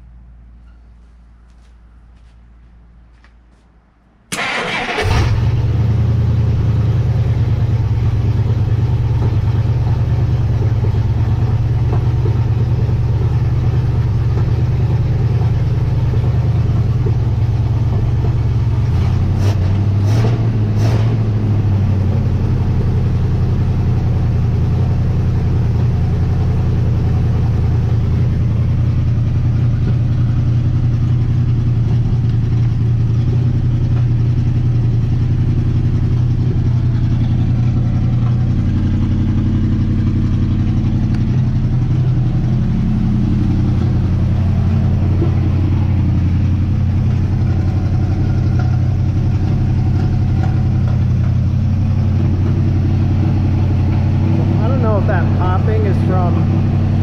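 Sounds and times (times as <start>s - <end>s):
car engine idling: 4.2s - 57.0s.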